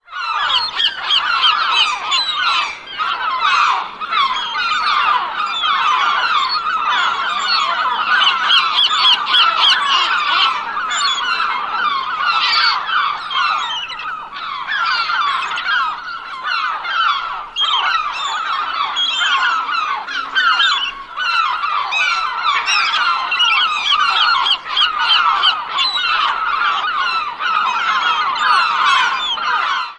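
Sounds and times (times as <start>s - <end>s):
flock of gulls squawking: 0.0s - 29.9s.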